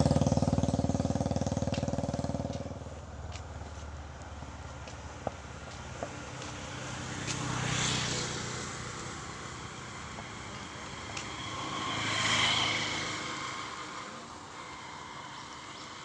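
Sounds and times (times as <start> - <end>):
vehicles passing by: 0.0 - 16.0.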